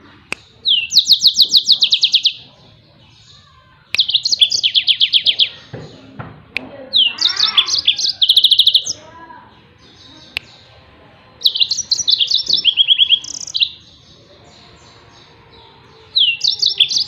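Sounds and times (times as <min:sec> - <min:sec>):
canary singing fast trills: 0:00.0 - 0:06.1, 0:06.8 - 0:17.0.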